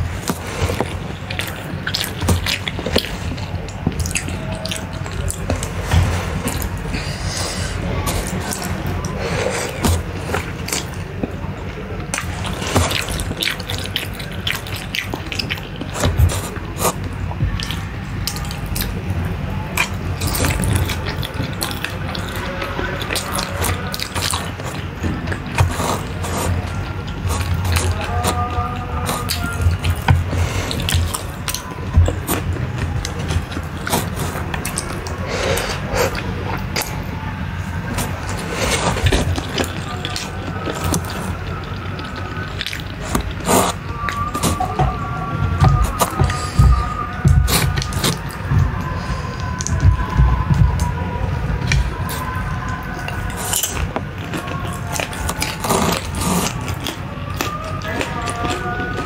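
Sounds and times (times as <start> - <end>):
noodles slurping: 0.0 - 19.0, 19.7 - 50.2, 51.6 - 59.0
steady low hum: 0.0 - 59.0
wet chewing: 0.0 - 59.0.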